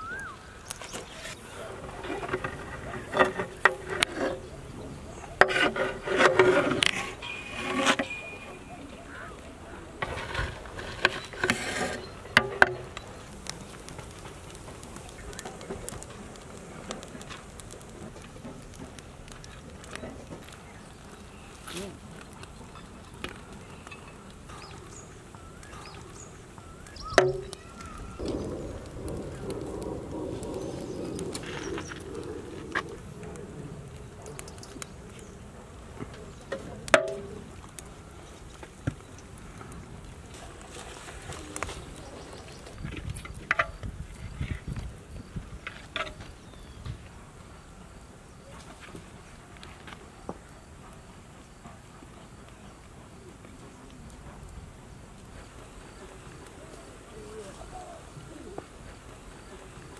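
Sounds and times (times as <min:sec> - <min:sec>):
birds: 0:00.0 - 0:48.9, 0:54.9 - 0:59.9.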